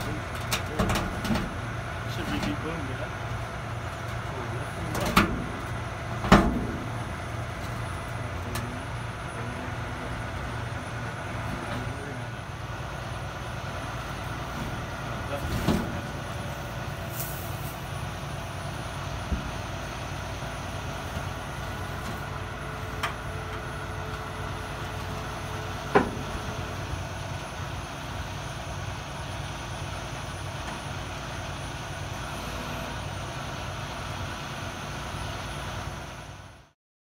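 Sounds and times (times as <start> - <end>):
truck diesel engine running: 0.0 - 36.8.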